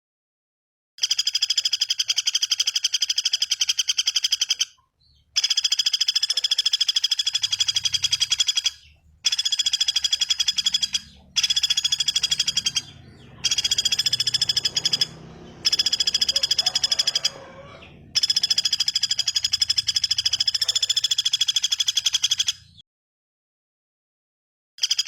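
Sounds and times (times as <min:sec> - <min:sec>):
small bird buzzy trill: 0:01.0 - 0:22.8, 0:24.8 - 0:25.0.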